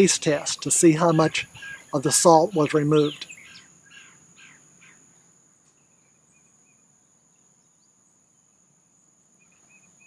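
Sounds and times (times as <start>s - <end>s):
insects droning: 0.0s - 10.0s
soft bird chirps: 0.0s - 10.0s.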